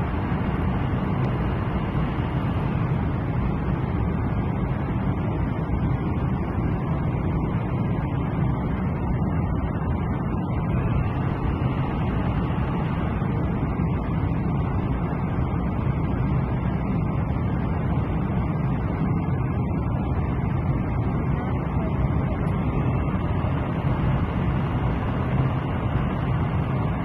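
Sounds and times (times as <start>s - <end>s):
airliner cabin roar: 0.0s - 27.0s.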